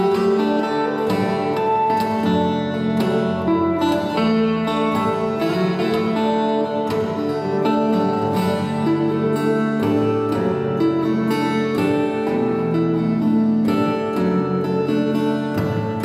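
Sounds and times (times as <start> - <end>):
acoustic guitar instrumental: 0.0 - 16.0.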